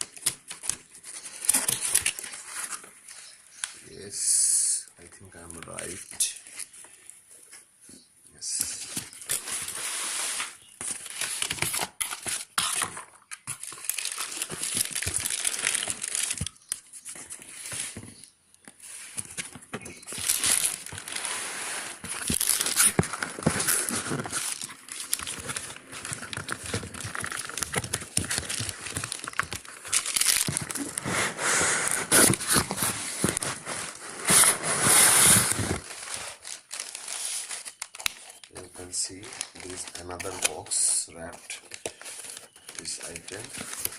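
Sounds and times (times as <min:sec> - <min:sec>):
packaging crinkling and tearing: 0:00.0 - 0:03.8, 0:08.7 - 0:43.9.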